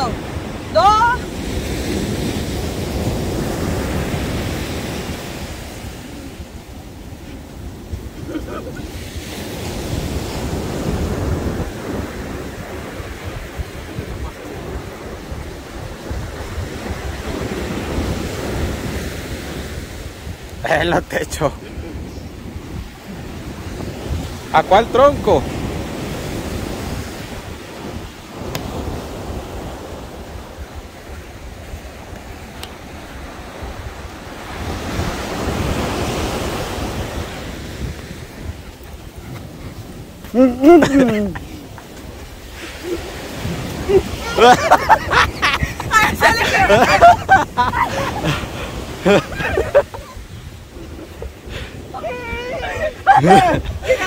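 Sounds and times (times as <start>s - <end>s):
surf rushing on beach: 0.0s - 54.0s
wind buffeting microphone: 0.0s - 54.0s.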